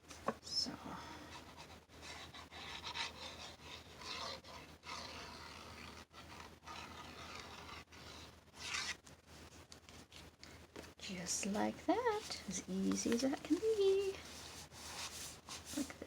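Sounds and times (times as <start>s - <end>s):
paper rubbing and rustling: 1.4s - 10.4s, 11.5s - 16.0s.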